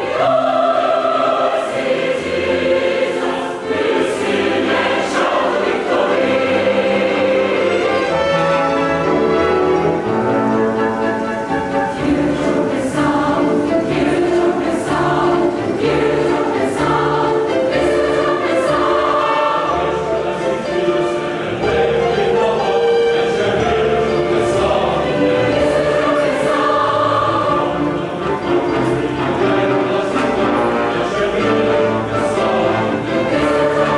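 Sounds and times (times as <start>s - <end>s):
mixed choir singing: 0.0s - 33.9s
orchestra of strings and brass: 0.0s - 33.9s.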